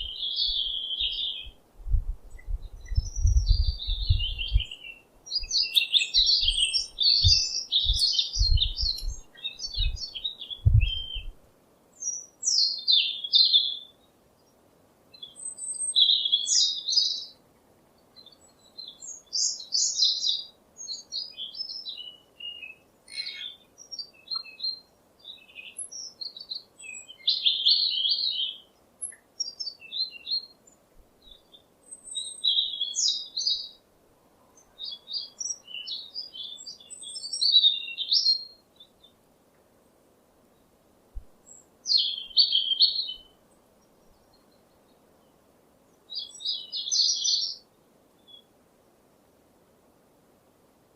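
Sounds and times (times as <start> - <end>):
songbirds chirping and singing: 0.0 - 1.6, 2.3 - 17.4, 18.0 - 39.2, 41.4 - 48.5.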